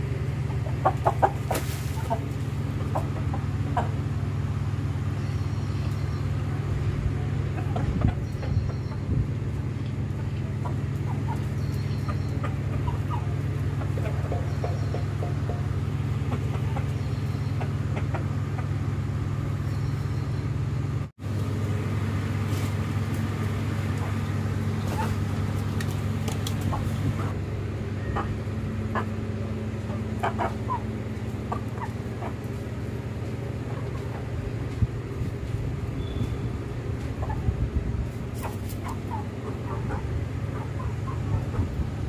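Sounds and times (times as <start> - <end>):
chickens clucking: 0.0 - 42.0
low mechanical drone: 0.0 - 42.0.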